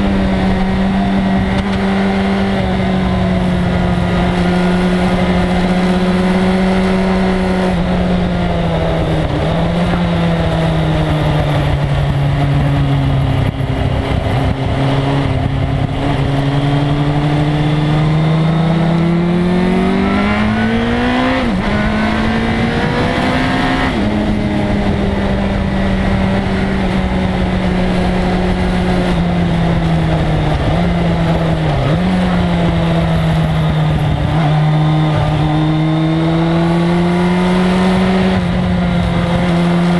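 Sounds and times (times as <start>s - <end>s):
motorcycle engine at speed: 0.0s - 39.9s
wind rumble: 0.0s - 39.9s.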